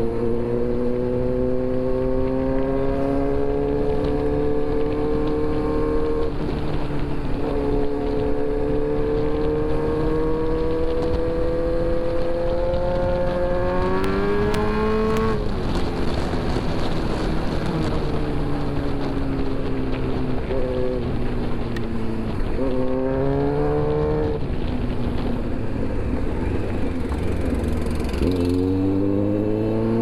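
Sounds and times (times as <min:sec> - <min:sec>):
motorcycle engine accelerating: 0:00.0 - 0:30.0
road and wind noise: 0:00.0 - 0:30.0.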